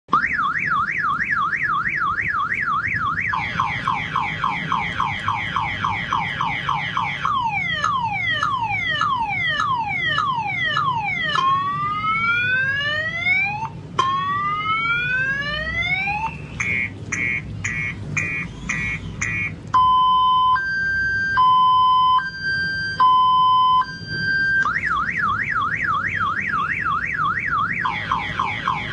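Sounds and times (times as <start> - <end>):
electronic siren: 0.1 - 28.9.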